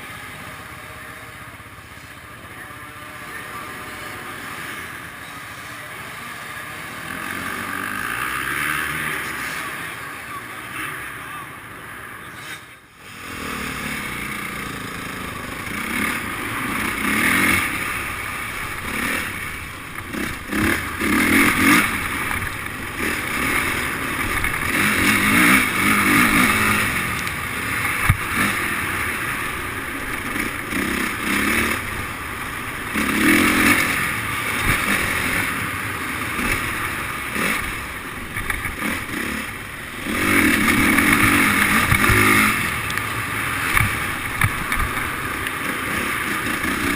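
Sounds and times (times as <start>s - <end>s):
motocross bikes revving: 0.0s - 46.9s.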